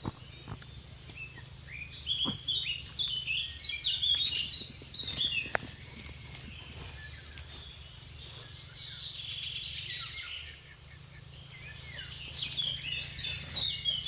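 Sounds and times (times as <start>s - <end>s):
low steady hum: 0.0s - 14.0s
small bird singing: 0.0s - 14.0s.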